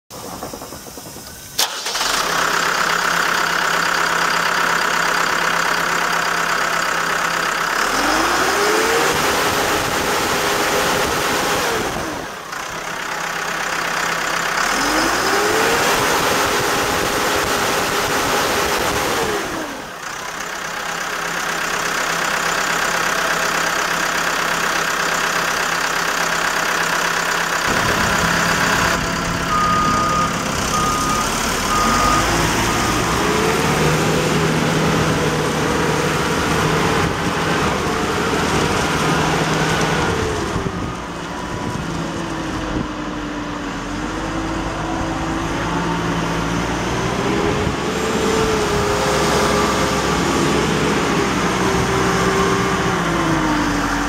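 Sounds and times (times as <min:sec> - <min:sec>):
diesel engine starting and idling: 0:00.1 - 0:54.0
engine revving: 0:00.4 - 0:20.4, 0:21.6 - 0:54.0.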